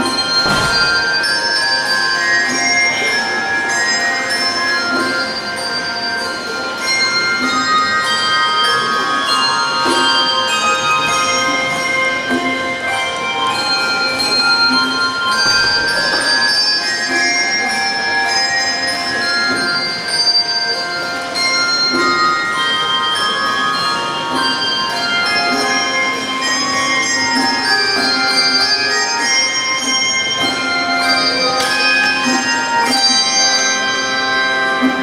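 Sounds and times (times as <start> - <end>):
handbell choir playing: 0.0 - 35.0.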